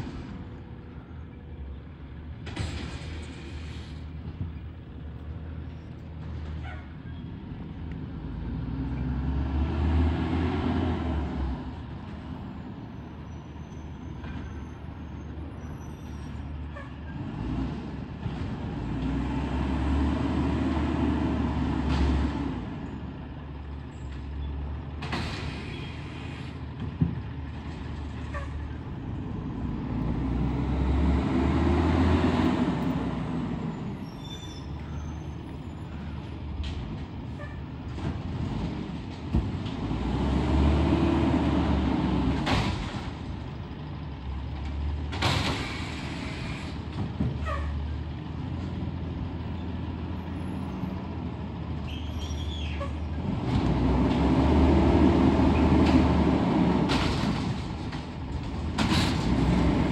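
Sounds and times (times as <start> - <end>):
garbage truck engine rumbling: 0.0 - 59.9.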